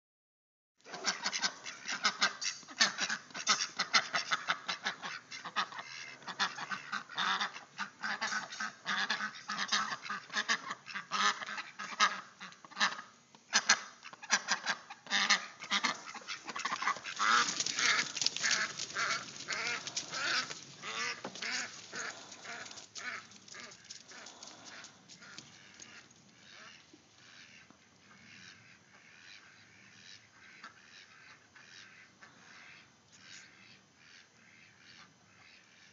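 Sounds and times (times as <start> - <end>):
ducks calling: 0.9 - 35.9.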